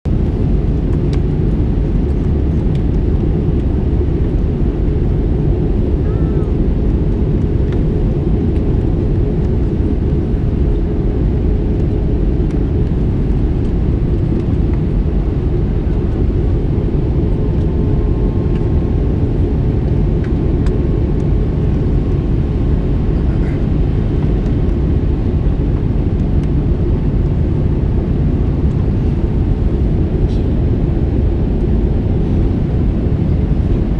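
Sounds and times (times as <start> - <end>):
airflow over fuselage: 0.1 - 33.9
airplane cabin engine drone: 0.1 - 33.9.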